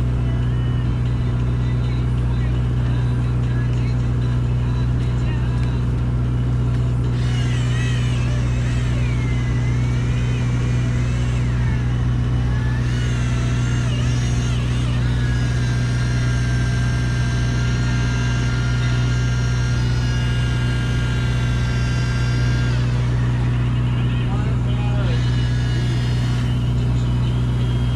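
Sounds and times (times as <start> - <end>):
boat engine drone: 0.0 - 27.9
electric reel whine: 0.0 - 27.9.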